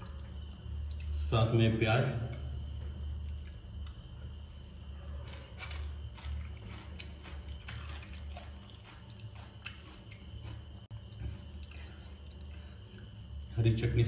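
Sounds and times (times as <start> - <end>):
person chewing crunchy food: 0.0 - 1.3, 2.4 - 13.5.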